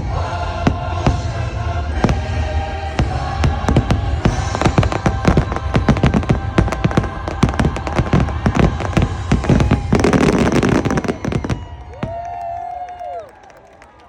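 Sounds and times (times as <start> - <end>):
low rumble: 0.0 - 12.4
fireworks bangs and cracks: 0.0 - 14.0.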